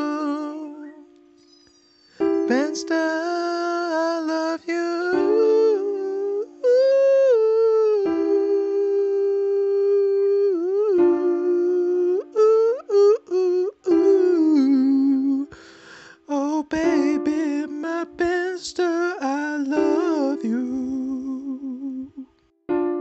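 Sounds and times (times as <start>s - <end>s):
person singing wordless notes: 0.0s - 1.4s, 2.2s - 23.0s.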